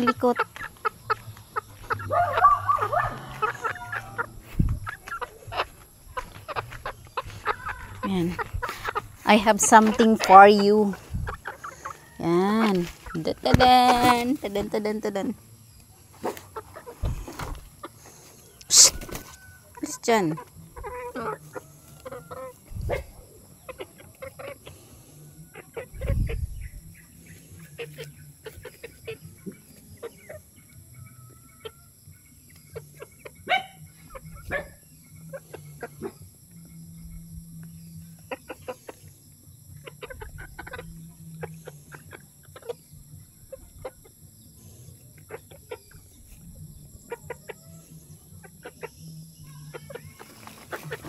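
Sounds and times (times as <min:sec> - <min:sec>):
steady low hum: 0:00.0 - 0:49.7
chickens clucking: 0:00.0 - 0:51.0.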